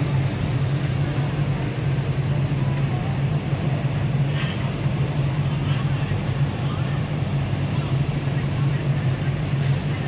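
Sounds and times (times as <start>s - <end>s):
low mechanical motor hum: 0.0s - 10.0s.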